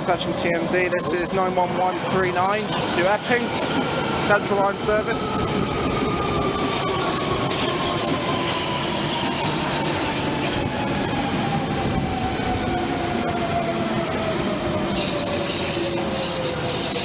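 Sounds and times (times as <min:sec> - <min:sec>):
wheels rumbling on rail: 0:00.0 - 0:17.0
train traction motor whine: 0:02.9 - 0:17.0.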